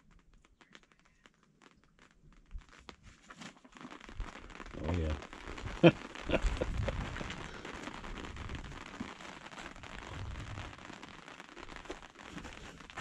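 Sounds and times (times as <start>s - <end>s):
rain on fabric canopy: 0.0s - 13.0s.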